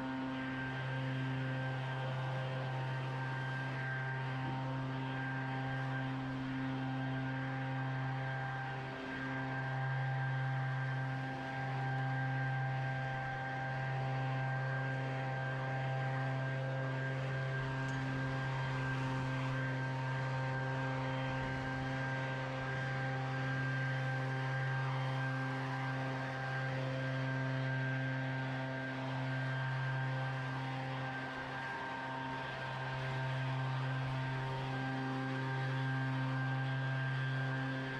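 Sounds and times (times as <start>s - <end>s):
small lawn equipment engine running: 0.0s - 37.9s.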